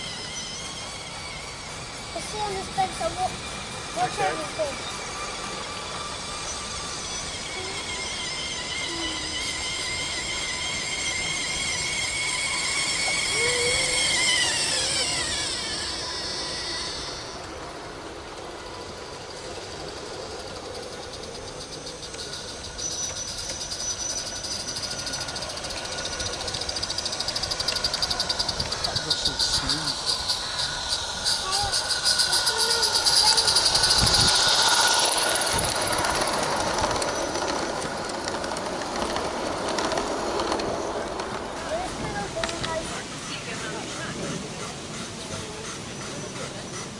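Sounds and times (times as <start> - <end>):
model locomotive whining: 0.0 - 46.9.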